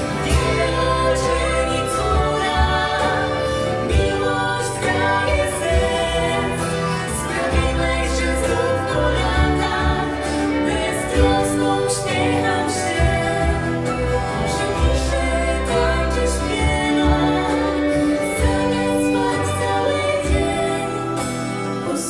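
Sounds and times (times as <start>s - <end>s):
live band playing: 0.0s - 22.0s
person singing: 0.0s - 22.0s.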